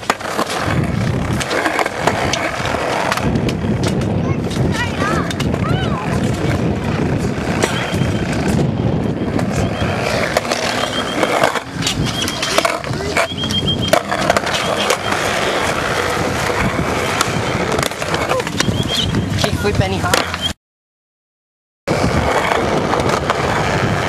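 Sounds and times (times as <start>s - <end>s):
scooter wheels rolling on concrete: 0.0s - 20.6s, 21.9s - 24.0s.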